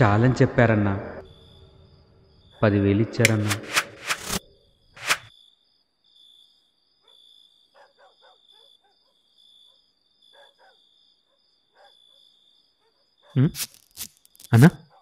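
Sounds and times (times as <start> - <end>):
crickets chirping: 1.2 - 3.4, 4.3 - 15.0.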